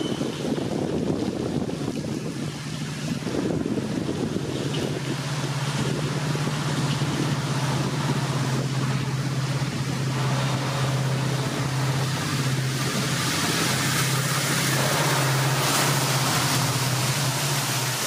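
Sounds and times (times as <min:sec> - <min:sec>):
diesel locomotive engine drone: 0:00.0 - 0:18.0
wind and rain hiss: 0:00.0 - 0:18.0.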